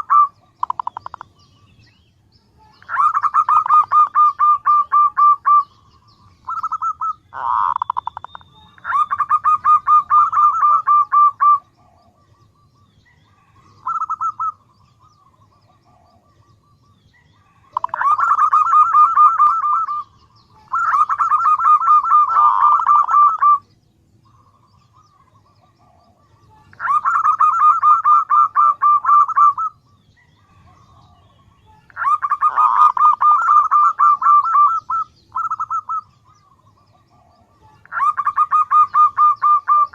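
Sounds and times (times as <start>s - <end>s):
dove cooing: 0.0s - 1.8s, 2.6s - 39.9s.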